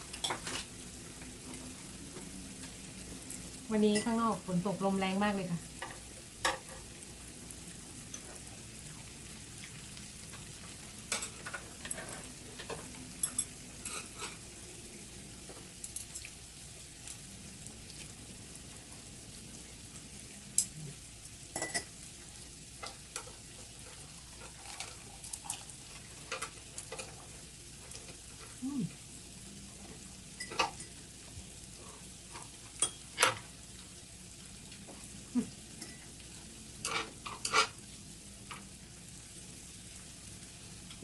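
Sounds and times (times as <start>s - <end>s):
meat sizzling on a grill: 0.0s - 41.0s.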